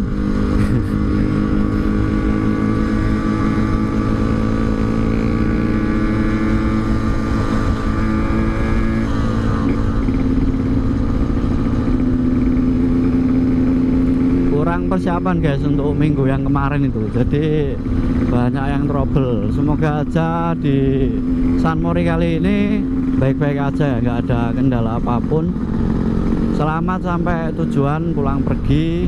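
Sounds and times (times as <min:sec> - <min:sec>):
two-stroke motorcycle engine running: 0:00.0 - 0:29.0.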